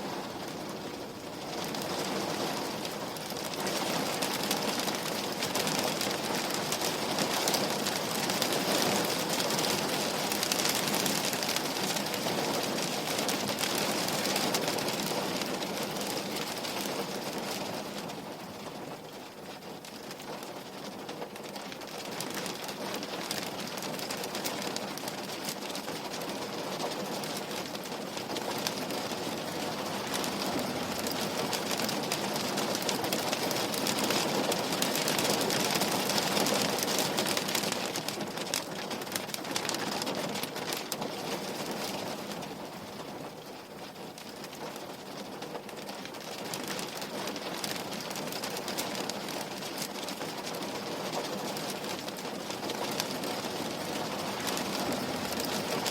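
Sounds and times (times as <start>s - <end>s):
rain on a window pane: 0.0s - 55.9s.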